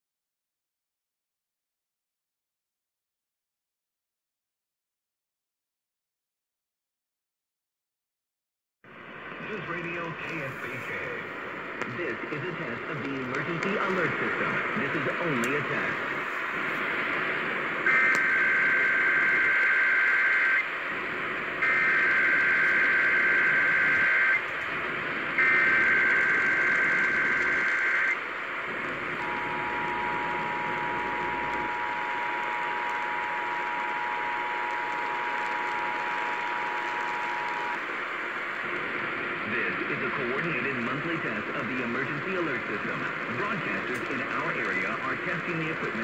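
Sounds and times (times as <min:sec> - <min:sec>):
radio hiss: 0:08.9 - 0:46.0.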